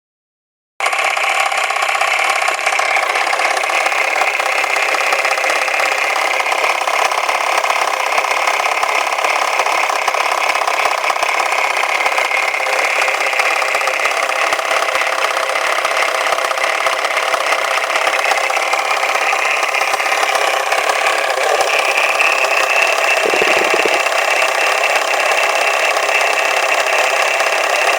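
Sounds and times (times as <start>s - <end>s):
car engine running: 2.6s - 27.9s.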